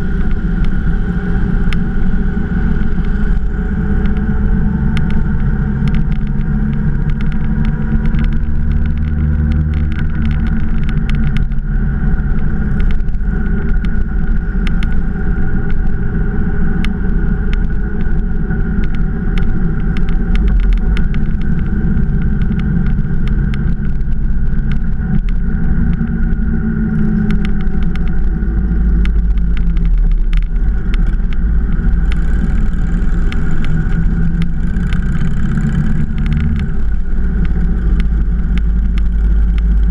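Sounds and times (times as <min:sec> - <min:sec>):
motorcycle engine running: 0:00.0 - 0:39.9
scattered clicks: 0:02.7 - 0:15.9, 0:16.8 - 0:39.9.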